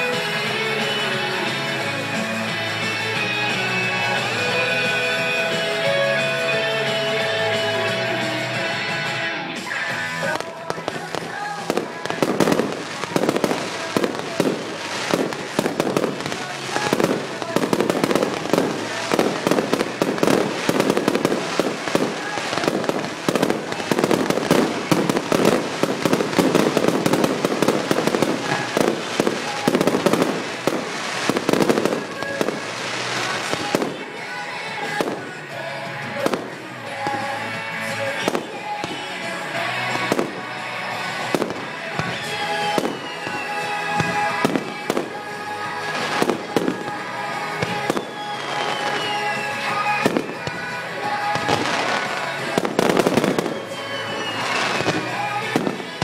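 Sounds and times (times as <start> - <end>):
firework bangs and crackling: 0.0 - 56.0
music: 0.0 - 56.0.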